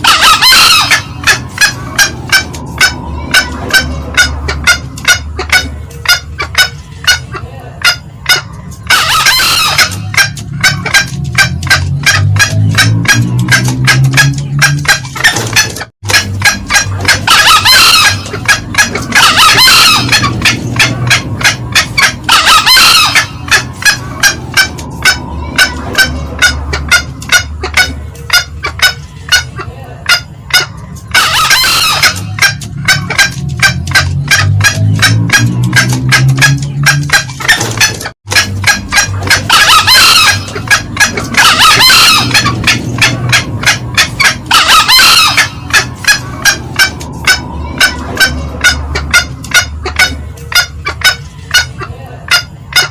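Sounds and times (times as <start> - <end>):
low hum: 0.0 - 51.8
junglefowl crowing: 0.0 - 52.9
quick clucking notes: 0.0 - 52.9.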